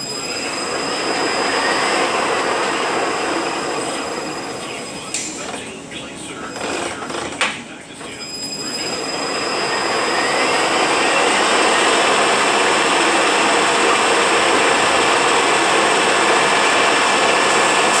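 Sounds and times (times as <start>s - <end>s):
truck transmission whine: 0.0s - 18.0s.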